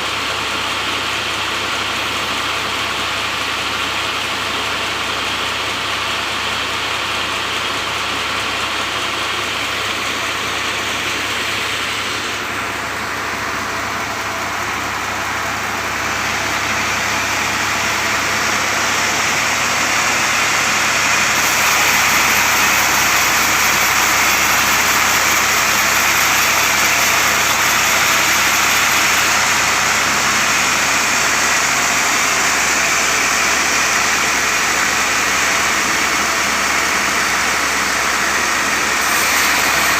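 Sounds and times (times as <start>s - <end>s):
sawmill cutting log: 0.0s - 39.9s.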